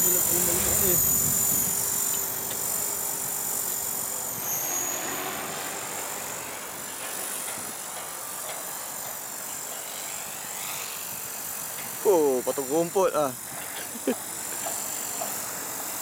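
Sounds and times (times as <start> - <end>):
rc helicopter motor whine: 0.0 - 16.0
spinning blades hiss: 0.0 - 16.0.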